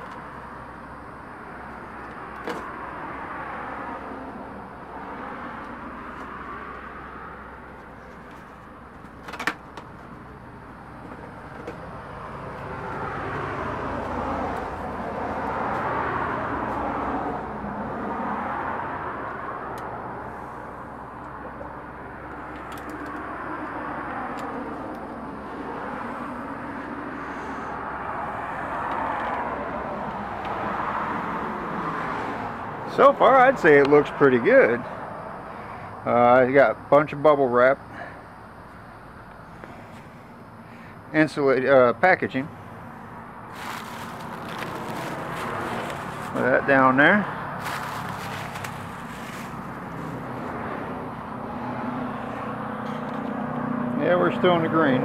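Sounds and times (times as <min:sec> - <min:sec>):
cars passing on a road: 0:00.0 - 0:55.0.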